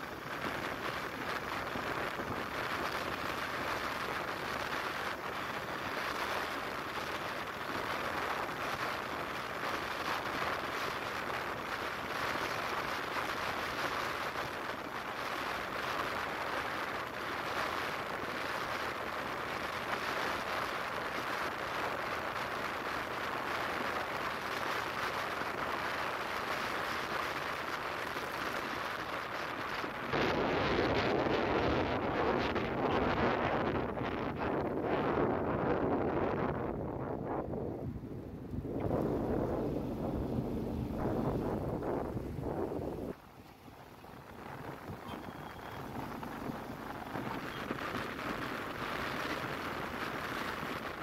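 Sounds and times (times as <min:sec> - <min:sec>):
tyre and road noise: 0:00.0 - 0:51.0
wind buffeting microphone: 0:00.0 - 0:51.0.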